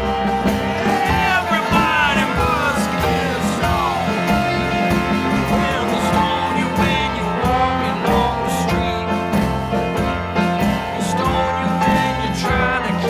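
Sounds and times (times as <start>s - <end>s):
band playing upbeat rock: 0.0s - 13.0s
guitar: 0.0s - 13.0s
steady drum beat: 0.0s - 13.0s
trombone: 0.0s - 13.0s.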